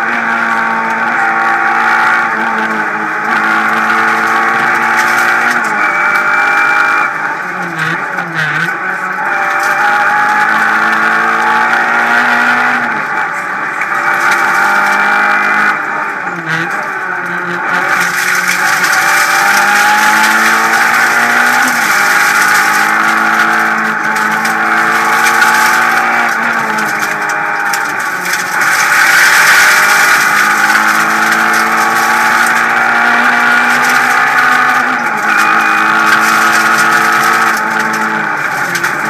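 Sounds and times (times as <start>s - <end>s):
car engine at high revs: 0.0s - 39.0s.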